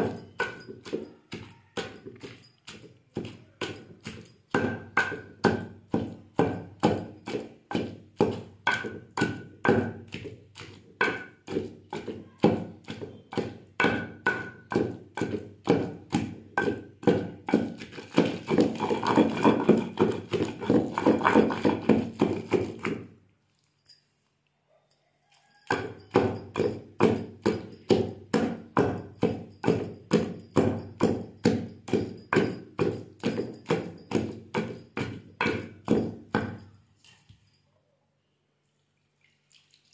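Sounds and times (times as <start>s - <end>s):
pestle pounding in stone mortar: 0.0s - 23.1s, 25.4s - 36.8s.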